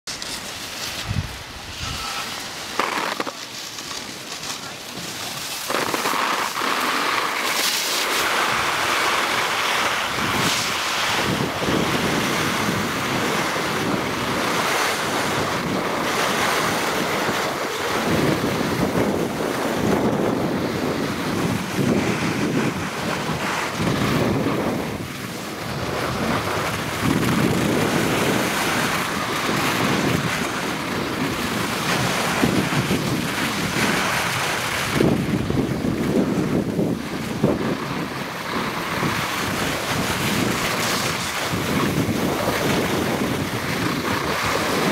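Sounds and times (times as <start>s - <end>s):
skis hissing over snow: 0.1s - 36.3s, 37.6s - 44.9s
wind buffeting microphone: 0.9s - 3.4s, 4.1s - 44.9s.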